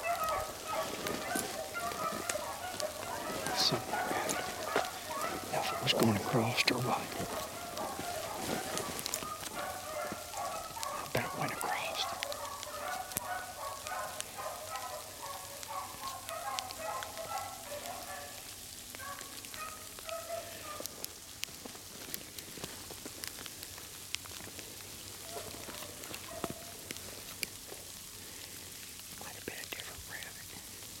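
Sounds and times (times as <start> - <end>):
beagles baying: 0.0 - 29.0
frozen rain ticking: 0.0 - 31.0.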